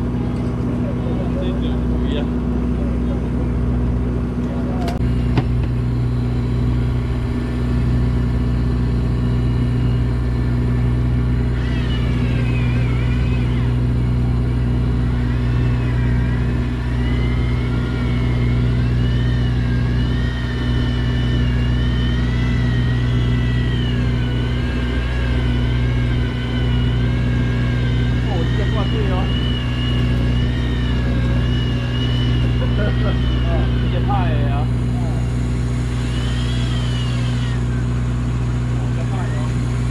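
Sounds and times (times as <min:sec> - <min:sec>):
boat engine humming: 0:00.0 - 0:39.9
electric fishing reel whining: 0:04.5 - 0:39.9.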